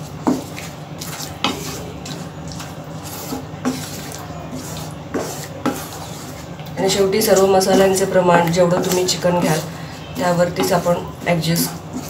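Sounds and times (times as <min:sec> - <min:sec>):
gravy sizzling: 0:00.0 - 0:12.0
spoon scraping a pan: 0:00.0 - 0:12.0.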